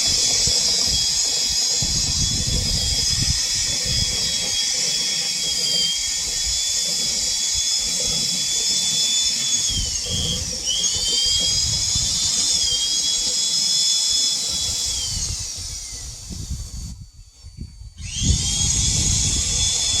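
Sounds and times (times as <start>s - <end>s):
small motor whining: 0.0s - 20.0s.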